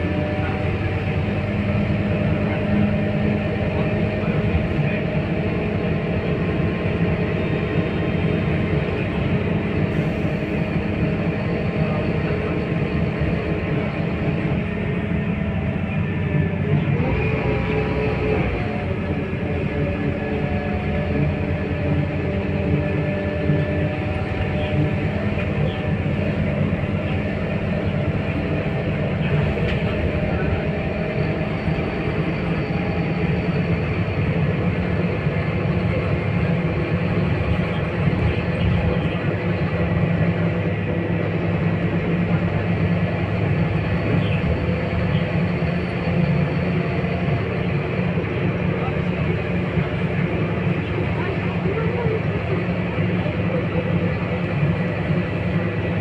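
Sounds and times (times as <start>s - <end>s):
bus diesel engine rumble: 0.0s - 56.0s
road noise: 0.0s - 56.0s.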